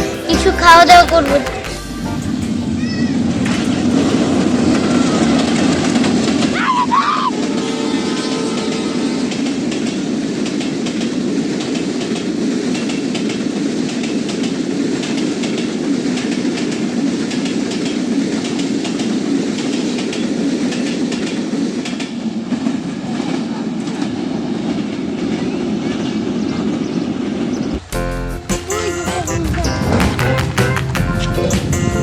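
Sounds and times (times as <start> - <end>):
wheels clicking over rail joints: 0.0 - 27.8
train rumbling along track: 0.0 - 32.0.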